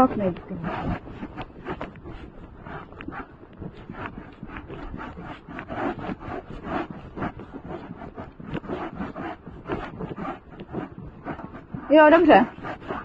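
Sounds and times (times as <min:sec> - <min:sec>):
rubbing and scraping: 0:00.0 - 0:13.0.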